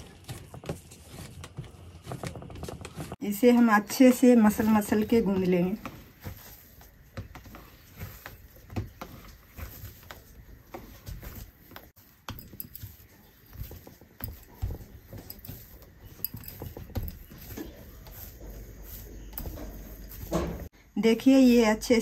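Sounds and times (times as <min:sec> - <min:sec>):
hands kneading dough: 0:00.0 - 0:22.0.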